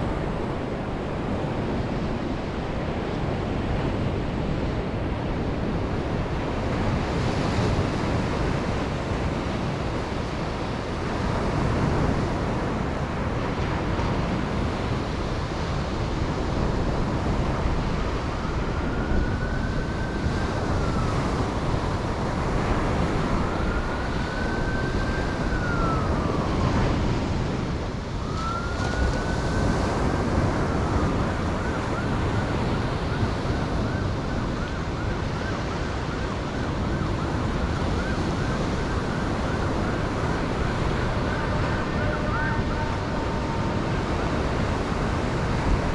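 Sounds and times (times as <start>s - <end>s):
ocean surf washing on beach: 0.0s - 45.9s
wailing siren tone: 5.3s - 45.9s.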